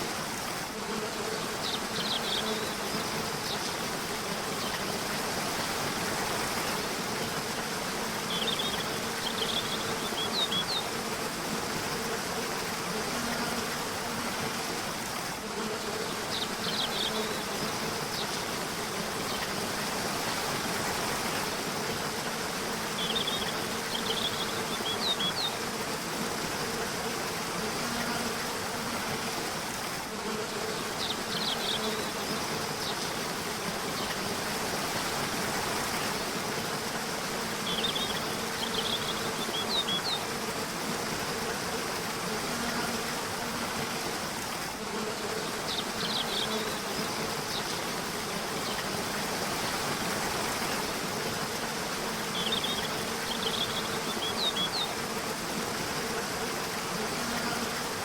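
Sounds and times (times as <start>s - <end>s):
flowing river water: 0.0s - 58.0s.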